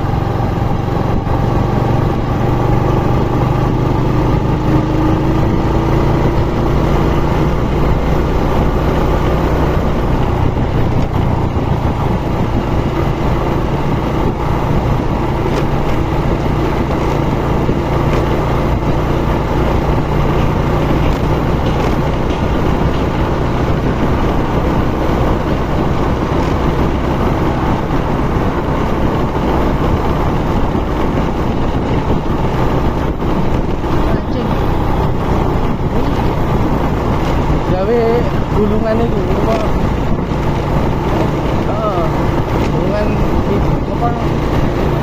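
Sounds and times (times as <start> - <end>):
vehicle engine running: 0.0 - 45.0
wind and road noise: 0.0 - 45.0.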